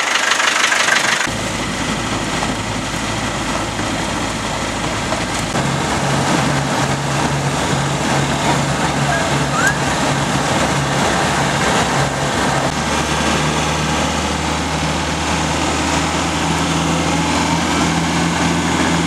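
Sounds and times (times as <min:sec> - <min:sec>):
car engine running: 0:00.0 - 0:19.0
road and tyre noise: 0:00.0 - 0:19.0.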